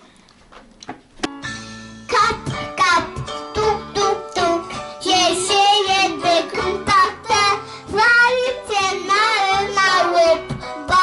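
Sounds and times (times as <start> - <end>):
instrumental backing music: 1.0 - 11.0
girl singing into a microphone: 2.1 - 11.0.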